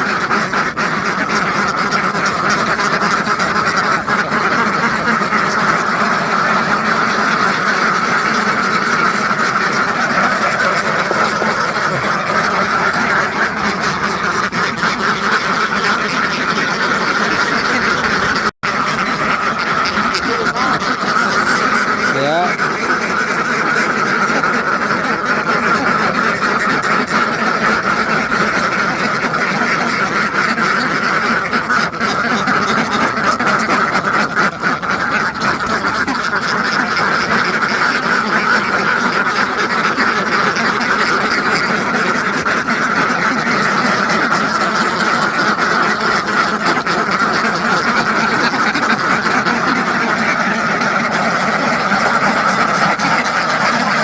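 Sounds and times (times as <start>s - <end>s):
flock of ducks quacking: 0.0s - 54.0s.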